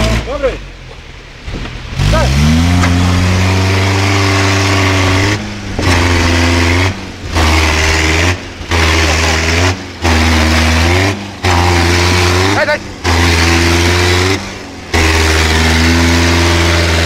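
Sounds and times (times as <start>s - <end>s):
off-road engine running hard: 0.0s - 17.0s.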